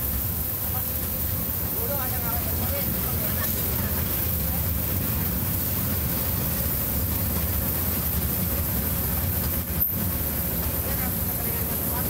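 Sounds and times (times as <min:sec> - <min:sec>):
train ride rumbling: 0:00.0 - 0:12.0.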